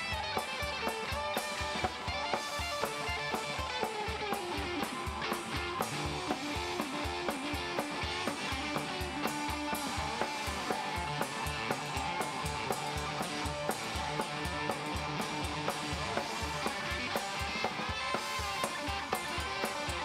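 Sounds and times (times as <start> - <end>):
drum kit beat: 0.0 - 20.0
electric guitars: 0.0 - 20.0.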